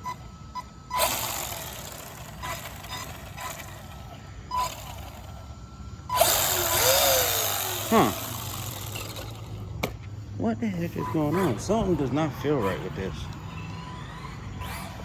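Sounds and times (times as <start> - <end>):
toy car motor whining: 0.0 - 9.7, 10.7 - 15.0.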